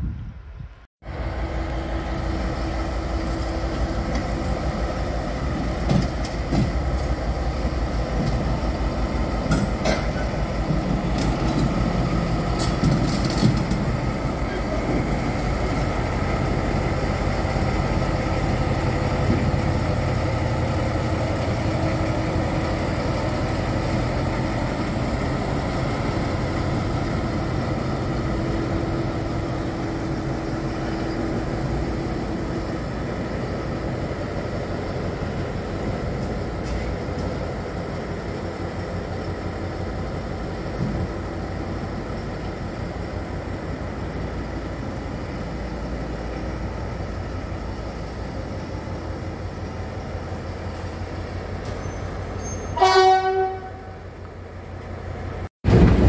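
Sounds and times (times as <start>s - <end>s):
train engine rumble: 0.0s - 56.0s.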